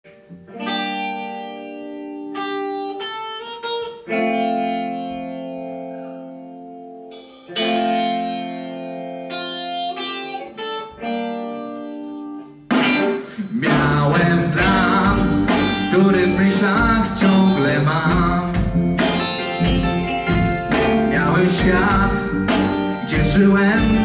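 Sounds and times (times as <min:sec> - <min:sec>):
electric guitar chords ringing: 0:00.1 - 0:24.0.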